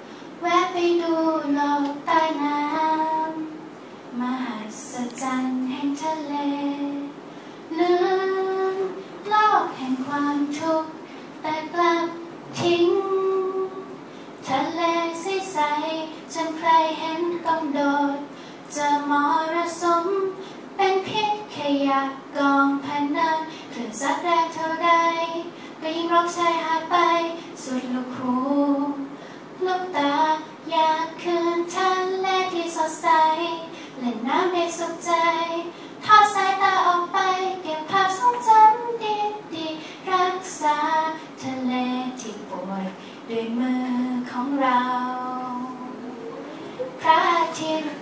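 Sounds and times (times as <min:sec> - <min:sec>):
woman singing into a microphone: 0:07.7 - 0:48.0.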